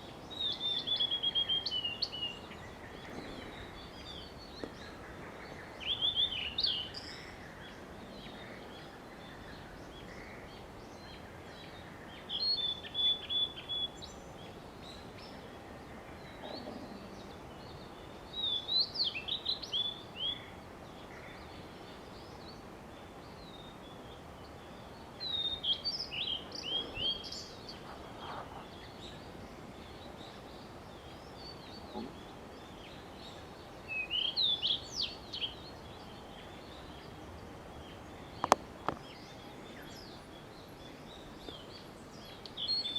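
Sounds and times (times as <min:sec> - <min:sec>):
bird singing: 0:00.0 - 0:42.9
steady background hiss: 0:00.0 - 0:42.9.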